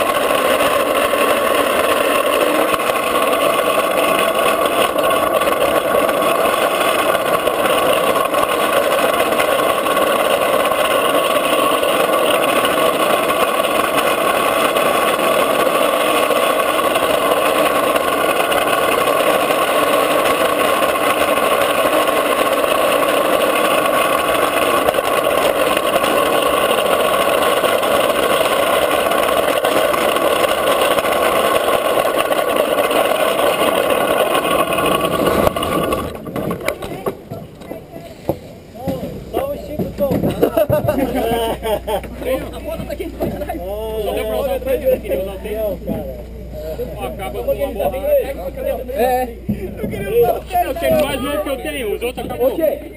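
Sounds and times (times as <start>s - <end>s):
plastic wheels rolling on asphalt: 0.0s - 52.9s.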